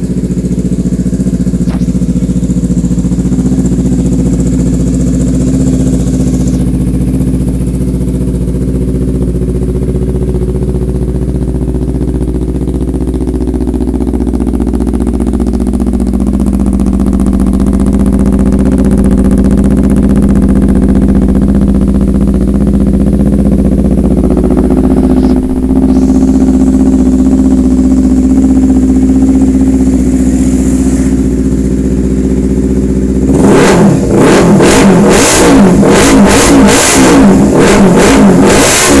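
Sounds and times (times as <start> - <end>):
motorcycle engine idling: 0.0 - 39.0
motorcycle engine revving: 0.0 - 39.0.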